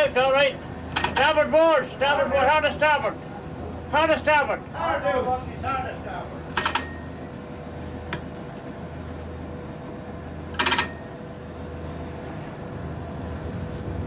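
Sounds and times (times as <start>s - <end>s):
low ship engine hum: 0.0s - 14.0s.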